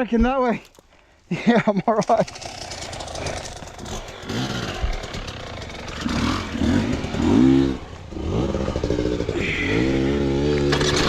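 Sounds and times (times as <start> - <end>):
dirt bike engine revving: 2.1 - 11.0.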